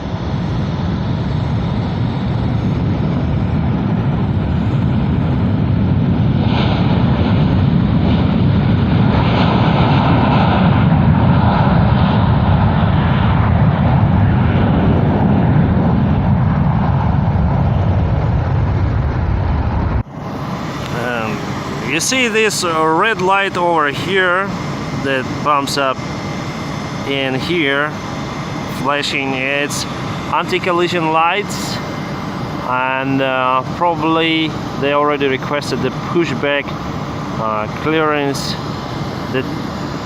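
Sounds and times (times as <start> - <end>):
jet engines rumbling: 0.0 - 40.0.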